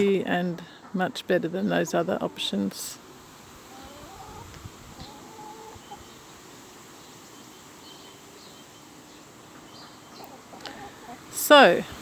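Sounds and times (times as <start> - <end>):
faint outdoor background: 0.0 - 12.0
hen calling: 0.0 - 12.0
small birds chirping: 0.0 - 12.0.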